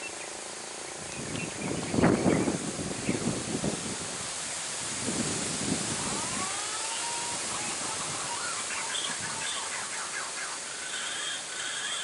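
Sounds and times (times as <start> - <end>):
wild birds calling: 0.0 - 3.4, 5.4 - 12.0
wind rumbling on microphone: 0.8 - 11.0.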